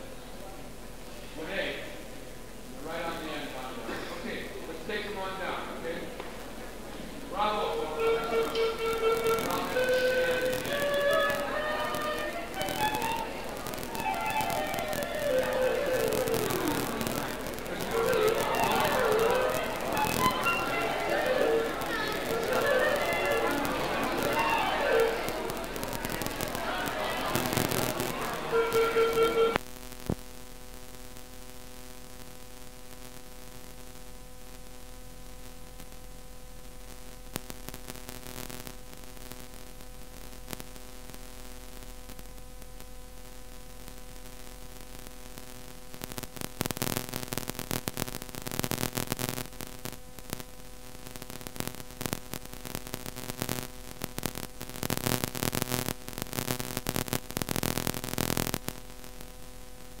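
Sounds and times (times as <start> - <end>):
crackling static bursts: 0.0 - 60.0
electrical hum and hiss: 0.0 - 60.0.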